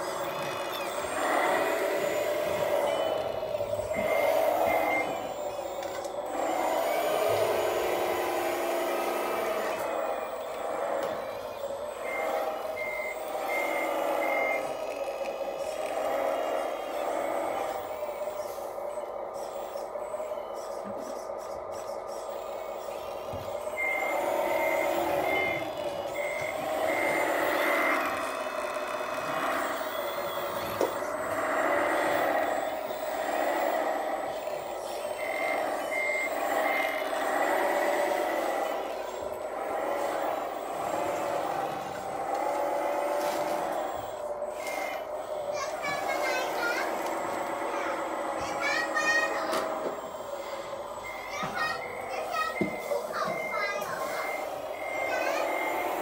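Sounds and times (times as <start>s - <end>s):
engine-like drone: 0.0s - 56.0s
reversing beeper: 0.0s - 56.0s
toy motors and gears whining: 0.0s - 56.0s.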